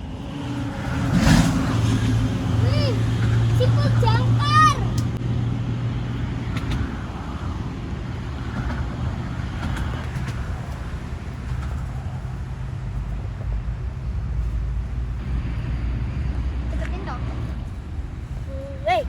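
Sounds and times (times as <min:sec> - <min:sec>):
deeper rumble: 0:00.0 - 0:19.0
road traffic noise: 0:00.0 - 0:19.0
vehicle engine humming: 0:00.0 - 0:19.0.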